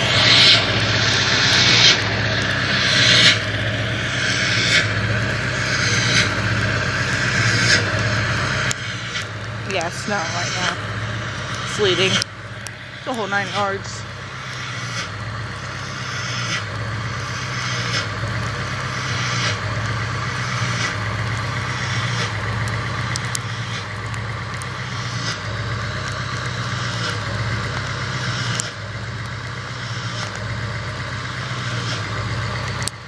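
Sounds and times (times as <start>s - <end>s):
diesel engine puffing: 0.0s - 33.0s.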